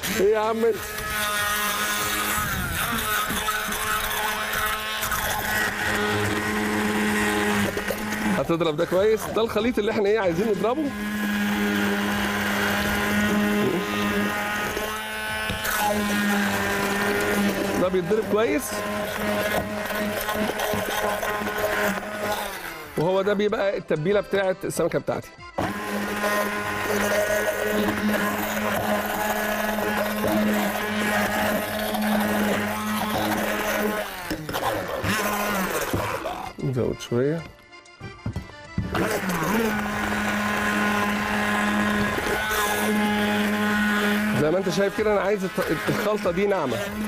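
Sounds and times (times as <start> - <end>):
immersion blender running: 0.0 - 23.4, 25.6 - 36.6, 38.3 - 47.0.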